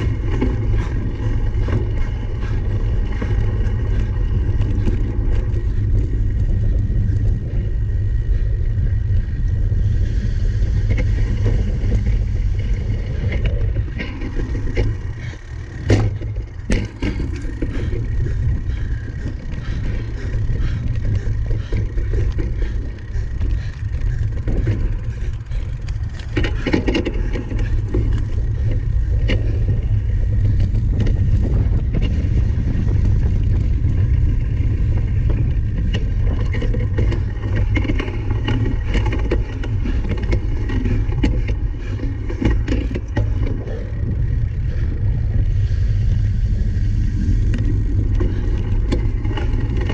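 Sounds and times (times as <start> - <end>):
bike rumbling over rough ground: 0.0 - 49.9.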